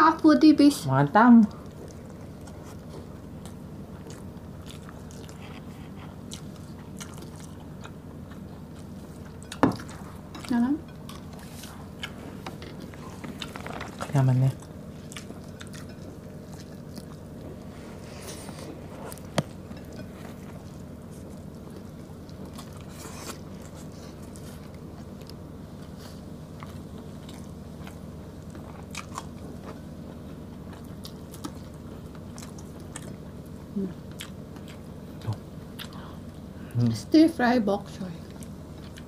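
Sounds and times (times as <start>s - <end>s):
steady low hum: 0.0s - 39.0s
chewing and mouth sounds: 1.5s - 36.2s, 38.2s - 39.0s.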